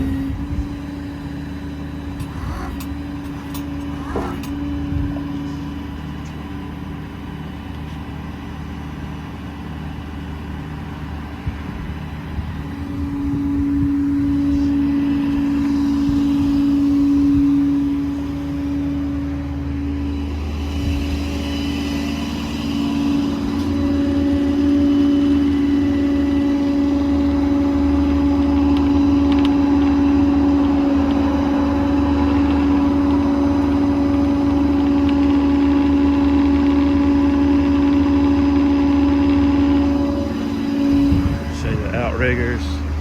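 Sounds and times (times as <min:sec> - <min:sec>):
diesel engine rumble: 0:00.0 - 0:43.0
hydraulic whine: 0:00.0 - 0:43.0.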